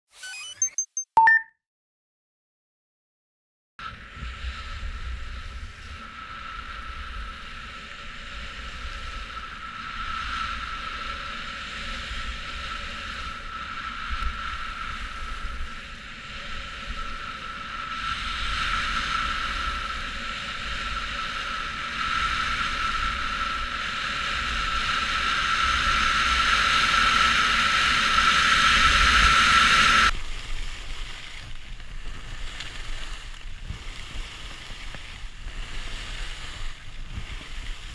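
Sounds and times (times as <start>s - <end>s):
skis hissing on snow: 4.1s - 37.9s
wind buffeting microphone: 4.1s - 37.9s.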